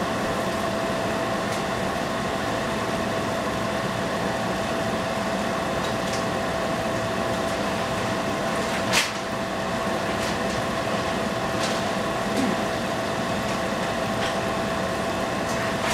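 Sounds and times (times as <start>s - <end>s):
constant hum: 0.0s - 15.9s.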